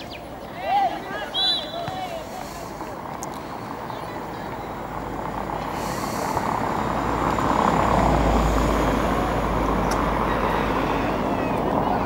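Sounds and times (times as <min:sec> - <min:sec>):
heavy road vehicle rumbling: 0:01.6 - 0:12.0.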